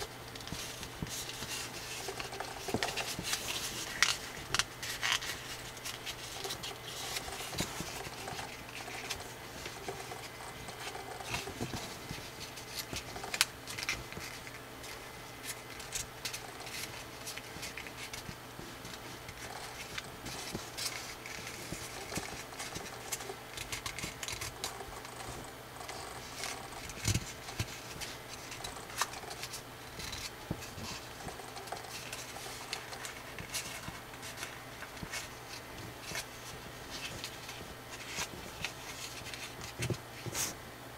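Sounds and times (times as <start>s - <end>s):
paper crackling and crinkling: 0.0s - 40.6s
faint low hum: 0.0s - 40.9s.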